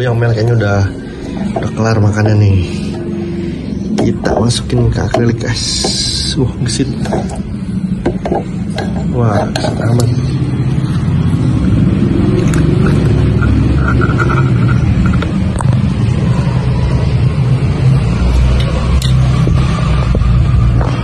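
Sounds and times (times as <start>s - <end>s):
loud low rumble: 0.0s - 21.0s.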